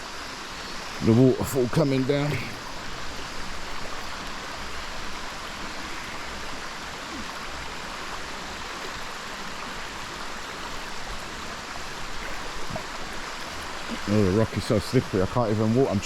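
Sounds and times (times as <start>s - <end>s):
waterfall pouring into pool: 0.0s - 16.0s.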